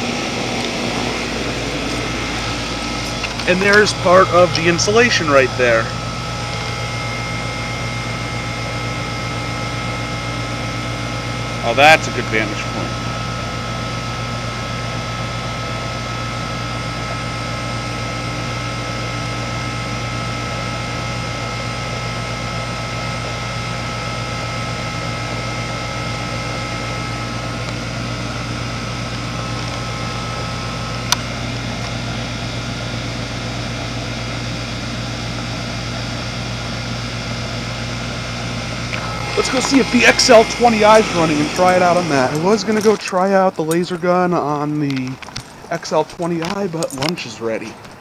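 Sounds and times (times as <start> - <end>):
heat pump humming and whining: 0.0 - 48.0.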